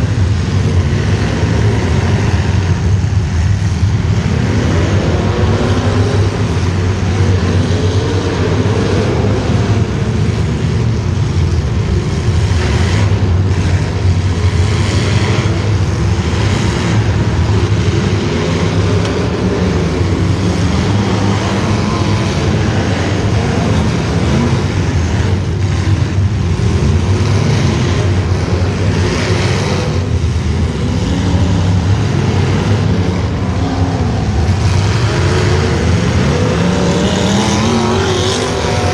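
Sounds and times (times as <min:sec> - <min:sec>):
racing engine revving: 0:00.0 - 0:38.9.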